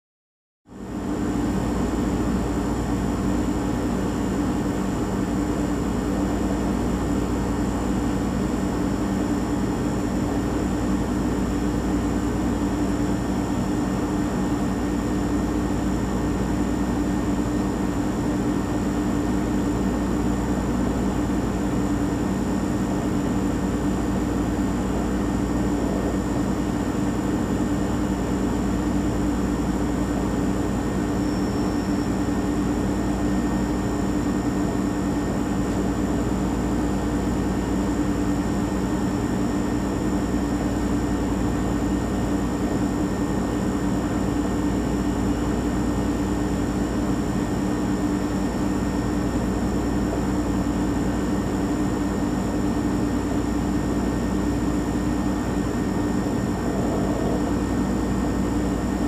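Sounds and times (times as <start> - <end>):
refrigerator humming: 0.7 - 59.0
faint high whine: 0.8 - 59.0.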